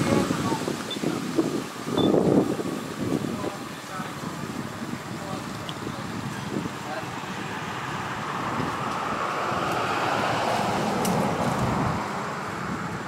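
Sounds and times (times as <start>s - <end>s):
road vehicle passing by: 2.1s - 13.0s.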